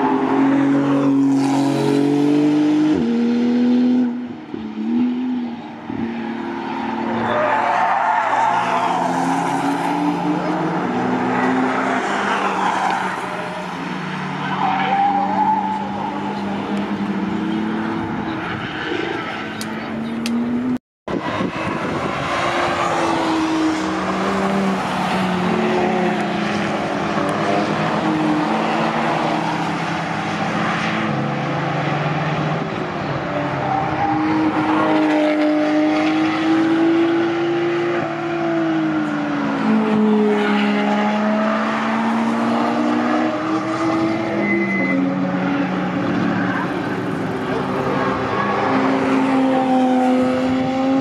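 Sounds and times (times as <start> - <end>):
several car engines racing: 0.0 - 51.0.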